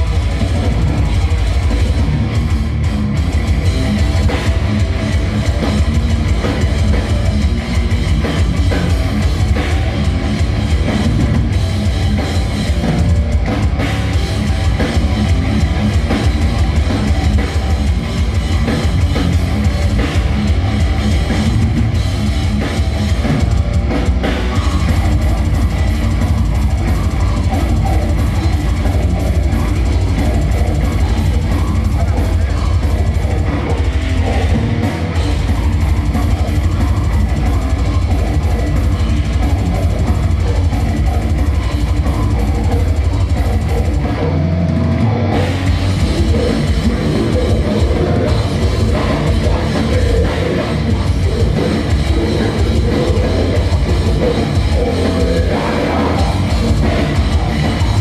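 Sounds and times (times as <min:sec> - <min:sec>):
death metal band playing live: 0:00.0 - 0:58.0
distorted bass: 0:00.0 - 0:58.0
electric guitar: 0:00.0 - 0:58.0
fast drums: 0:00.0 - 0:58.0.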